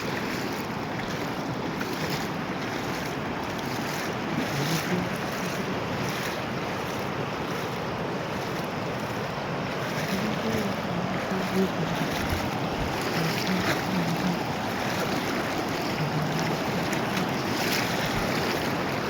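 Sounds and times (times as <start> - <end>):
water rushing over edge: 0.0 - 19.0.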